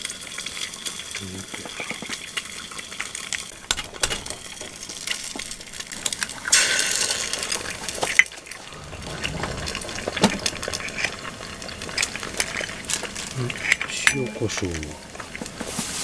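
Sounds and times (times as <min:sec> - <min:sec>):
eggs frying in oil: 0:00.0 - 0:16.0.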